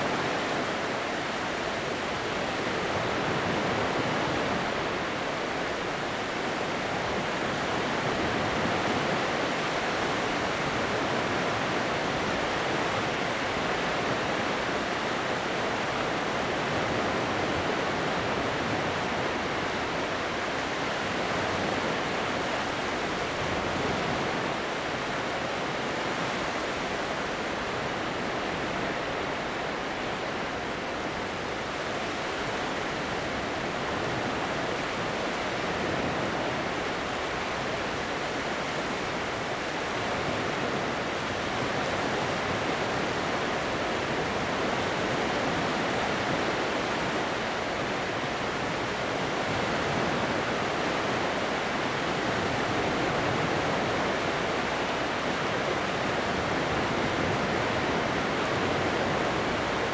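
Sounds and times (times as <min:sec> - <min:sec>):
surf washing onto shore: 0:00.0 - 0:59.9.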